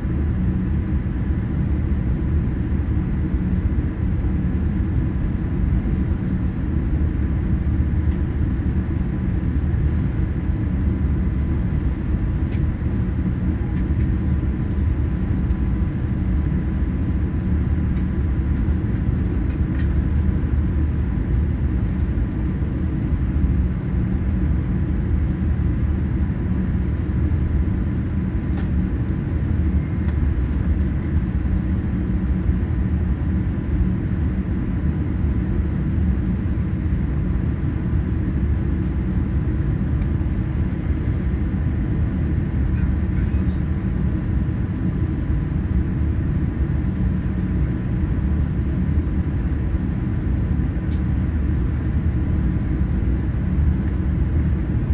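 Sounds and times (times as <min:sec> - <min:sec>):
airliner cabin rumble: 0:00.0 - 0:54.9
faint steady whine: 0:00.0 - 0:54.9.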